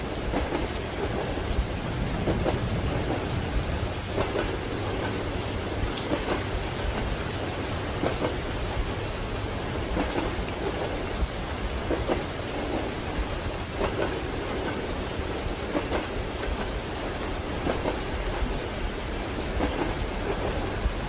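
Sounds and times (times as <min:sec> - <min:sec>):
moving train rumble: 0:00.0 - 0:21.0
rain on a window: 0:00.0 - 0:21.0.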